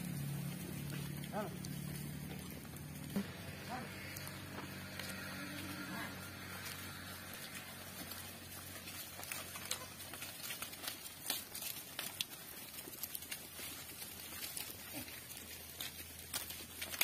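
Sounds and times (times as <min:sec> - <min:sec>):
hooves pattering on dry leaves: 0:00.0 - 0:17.0
low hum: 0:00.0 - 0:17.0.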